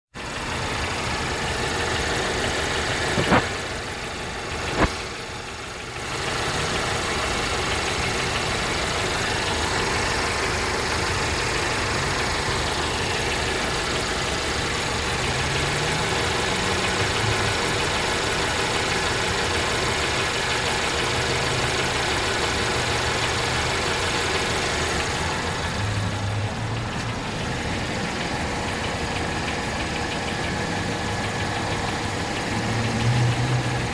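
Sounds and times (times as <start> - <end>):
car engine idling with knocking: 0.1 - 33.9.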